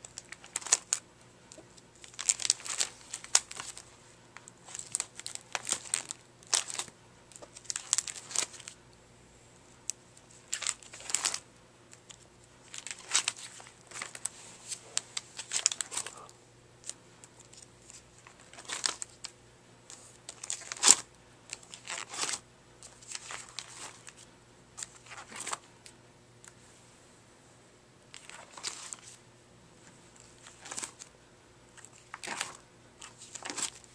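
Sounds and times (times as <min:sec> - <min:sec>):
plastic sheets crinkling: 0:00.0 - 0:08.8, 0:10.3 - 0:11.4, 0:12.0 - 0:19.3, 0:19.9 - 0:25.6, 0:28.1 - 0:29.2, 0:30.1 - 0:31.1, 0:31.8 - 0:33.9.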